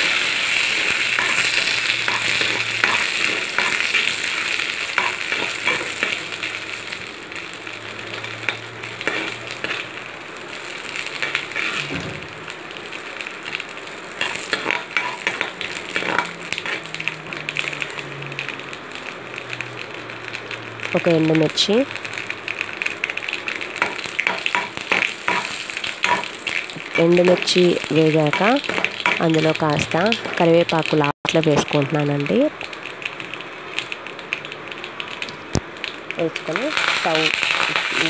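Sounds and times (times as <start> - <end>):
hot oil sizzling in a pan: 0.0 - 38.0.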